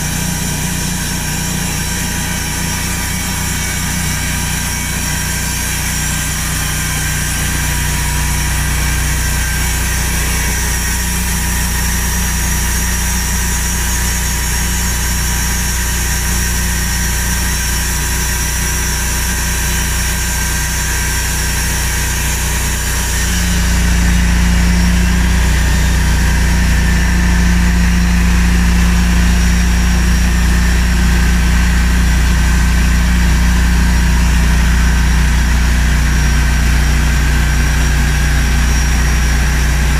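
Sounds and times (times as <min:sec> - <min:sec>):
sawmill machine drone: 0:00.0 - 0:39.9.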